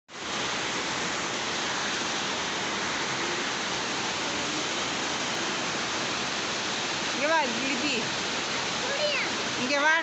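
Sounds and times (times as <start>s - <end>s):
heavy rain falling: 0.1s - 10.0s.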